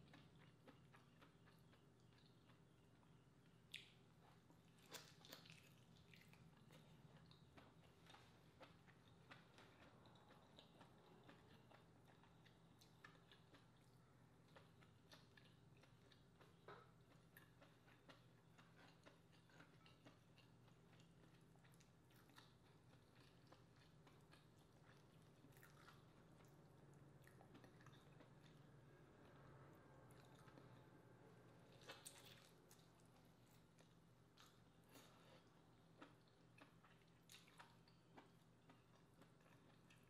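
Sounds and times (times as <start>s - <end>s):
chewing: 0.0s - 30.9s, 31.6s - 40.0s.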